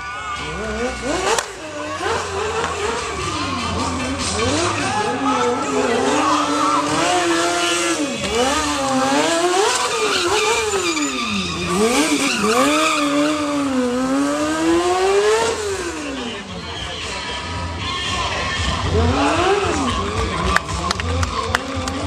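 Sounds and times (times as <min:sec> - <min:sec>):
motorcycle engine revving: 0:00.3 - 0:22.0.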